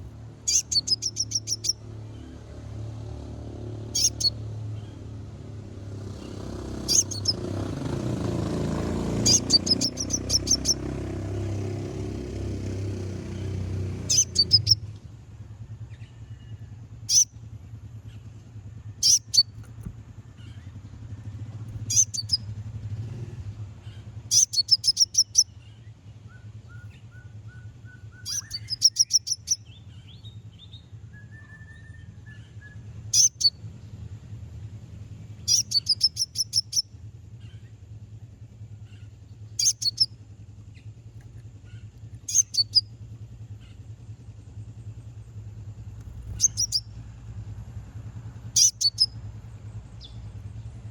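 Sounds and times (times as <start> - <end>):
bird sharp chipping calls: 0.0 - 2.4, 3.8 - 5.2, 6.0 - 15.0, 17.0 - 17.3, 18.0 - 33.8, 35.4 - 38.0, 38.6 - 47.1, 48.4 - 50.9.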